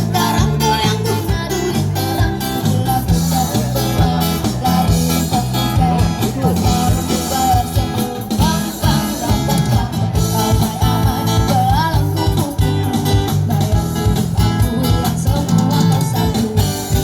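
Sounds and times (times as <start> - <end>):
guitar: 0.0 - 17.0
person singing: 0.0 - 17.0
rhythmic bass line: 0.0 - 17.0.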